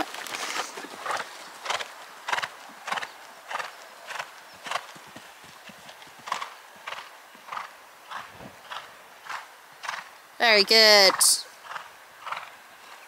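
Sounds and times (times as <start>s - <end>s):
pony hooves cantering on sand: 0.0s - 13.0s.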